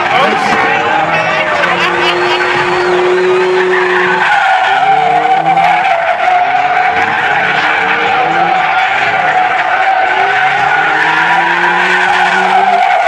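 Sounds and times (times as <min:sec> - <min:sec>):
car engine revving: 0:00.0 - 0:13.0
tyres squealing: 0:00.0 - 0:13.0.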